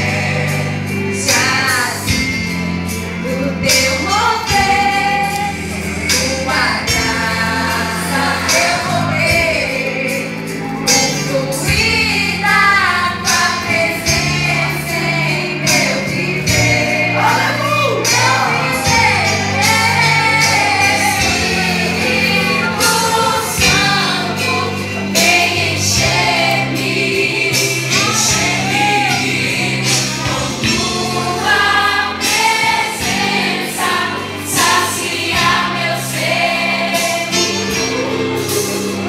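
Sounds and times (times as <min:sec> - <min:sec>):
bass line: 0:00.0 - 0:39.0
women singing gospel song: 0:00.0 - 0:39.0.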